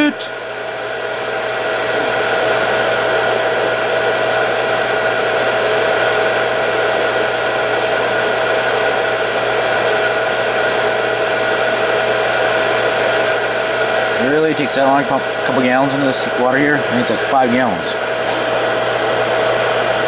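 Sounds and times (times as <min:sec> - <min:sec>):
water pump motor whine: 0:00.0 - 0:20.0.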